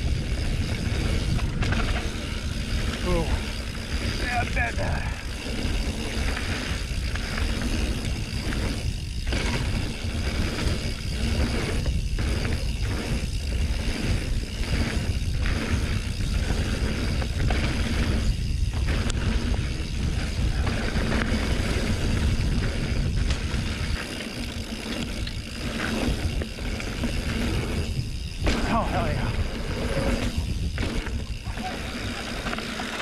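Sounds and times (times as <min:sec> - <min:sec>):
bike rattling over ground: 0:00.0 - 0:33.0
bike tyre noise: 0:00.0 - 0:33.0
wind buffeting microphone: 0:00.0 - 0:33.0.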